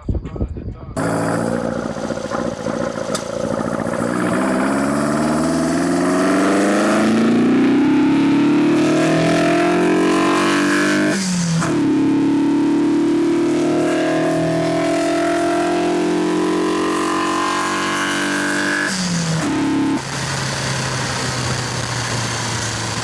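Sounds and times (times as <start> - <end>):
car engine revving: 1.0 - 23.0.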